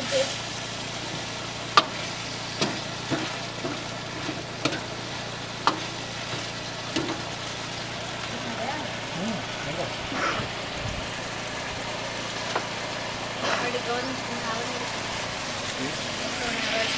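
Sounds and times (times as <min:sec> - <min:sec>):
chicken sizzling in a wok: 0:00.0 - 0:16.9.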